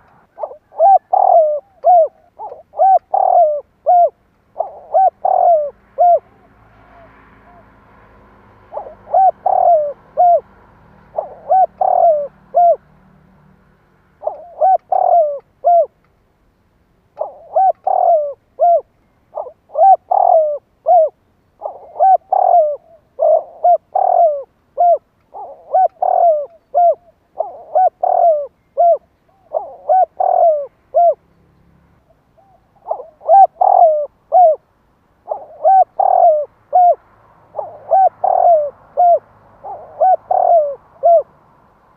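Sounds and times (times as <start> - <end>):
dove cooing: 0.0 - 7.8, 8.7 - 12.9, 14.2 - 16.0, 17.2 - 31.2, 32.4 - 34.6, 35.2 - 41.3.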